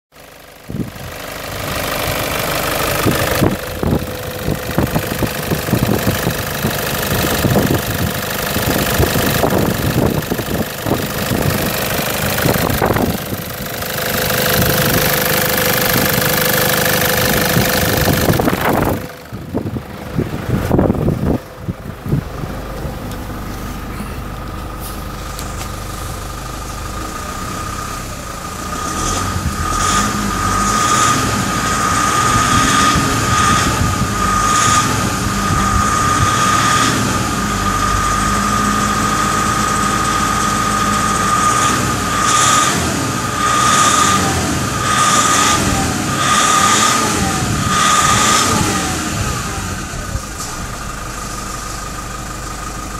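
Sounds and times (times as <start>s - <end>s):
diesel engine running: 0.1s - 52.9s.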